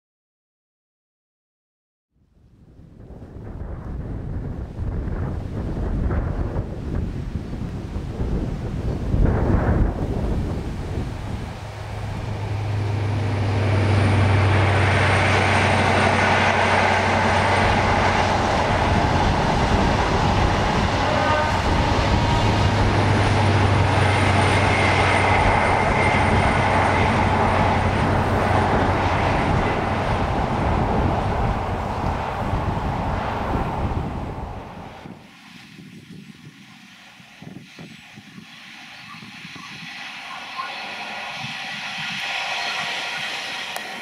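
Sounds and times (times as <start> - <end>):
wheels rumbling on rails: 2.8 - 44.0
diesel train engine drone: 3.0 - 44.0.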